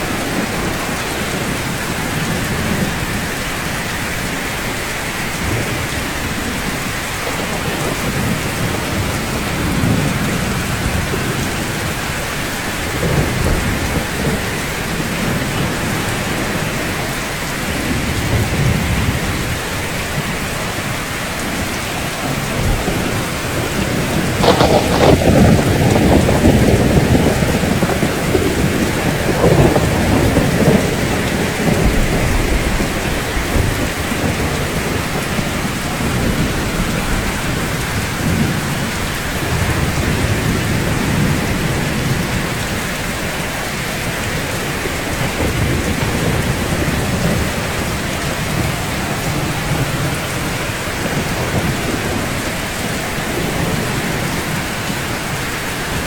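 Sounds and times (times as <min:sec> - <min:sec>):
steady rain falling: 0:00.0 - 0:56.0
thunder rumbling: 0:00.0 - 0:56.0.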